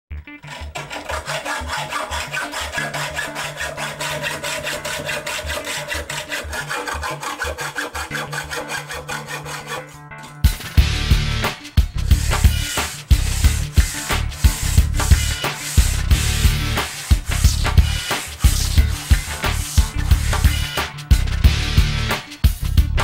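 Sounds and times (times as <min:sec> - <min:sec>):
music: 0:00.1 - 0:23.0
blade scraping on an abrasive: 0:00.4 - 0:10.4, 0:12.0 - 0:20.9.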